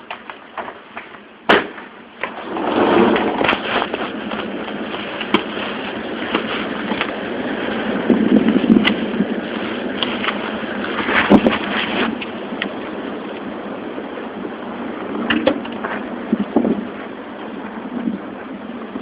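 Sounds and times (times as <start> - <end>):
wind buffeting microphone: 2.2 - 19.0.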